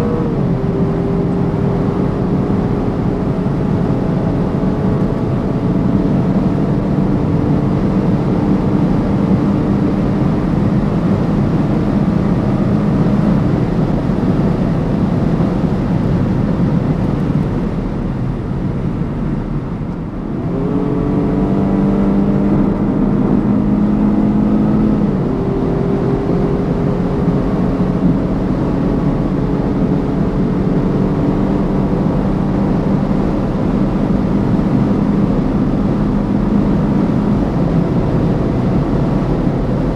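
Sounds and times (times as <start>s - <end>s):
car engine revving at speed: 0.0s - 39.9s
road and wind noise: 0.0s - 39.9s.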